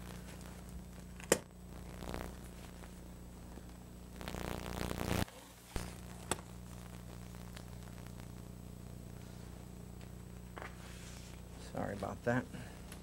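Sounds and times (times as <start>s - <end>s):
low recording hum: 0.0s - 13.0s.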